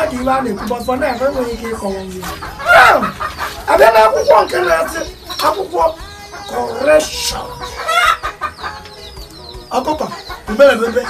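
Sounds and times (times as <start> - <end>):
chickens clucking: 0.0 - 11.0
high chirps: 0.0 - 11.0.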